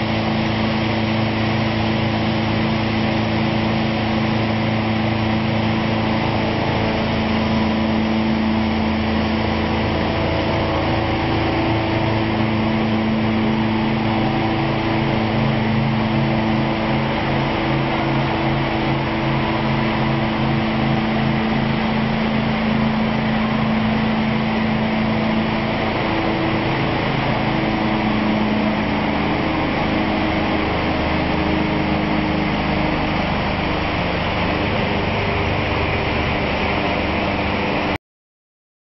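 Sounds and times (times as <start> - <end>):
wood grinder and blower running: 0.0 - 38.0.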